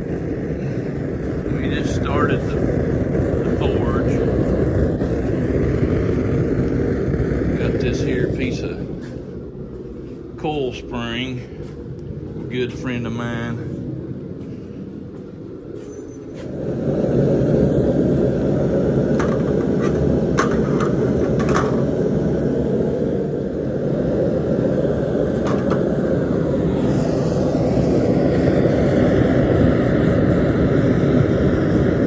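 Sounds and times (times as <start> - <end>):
forge burner and blower roar: 0.0 - 32.0.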